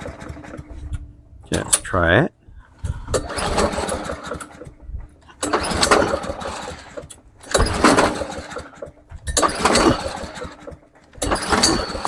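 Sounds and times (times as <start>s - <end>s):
lawn mower engine cranking: 0.0s - 12.0s.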